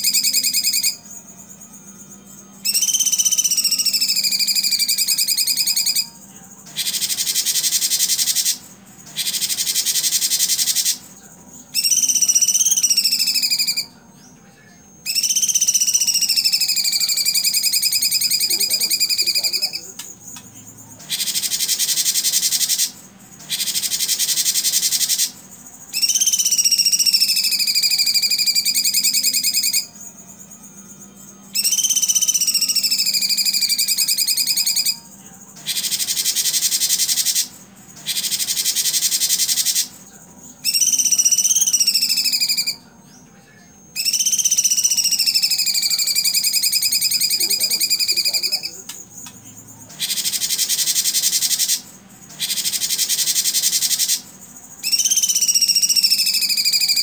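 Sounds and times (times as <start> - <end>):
bird whistled notes: 0.0 - 1.8, 2.6 - 11.1, 11.7 - 20.1, 21.0 - 40.0, 40.6 - 49.3, 49.9 - 57.0
bird buzzy rattling trills: 0.0 - 14.0, 15.0 - 42.9, 43.9 - 57.0.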